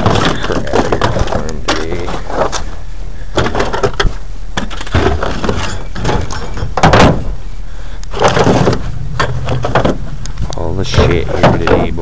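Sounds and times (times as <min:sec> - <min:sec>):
scrap junk clattering down: 0:00.0 - 0:02.7, 0:03.3 - 0:07.4, 0:08.1 - 0:10.1, 0:10.9 - 0:12.0
steady low hum: 0:00.0 - 0:12.0.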